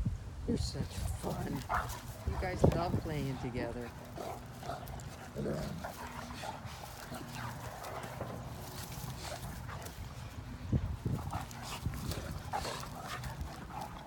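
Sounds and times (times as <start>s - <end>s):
scuffling on grass: 0.7s - 14.0s
dogs growling playfully: 0.8s - 14.0s.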